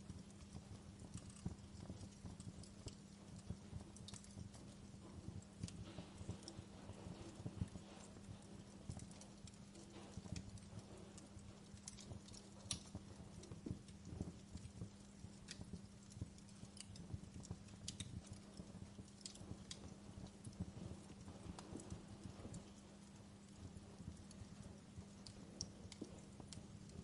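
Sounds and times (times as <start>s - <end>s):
faint steady hum: 0.0s - 27.0s
wood fire crackling: 0.0s - 27.0s.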